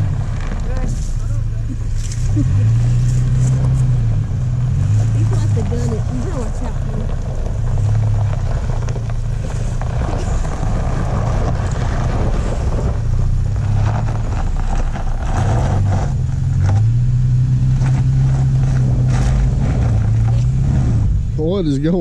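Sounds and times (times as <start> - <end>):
rough crunching noise: 0.0 - 21.2
truck engine revving under load: 0.0 - 22.0.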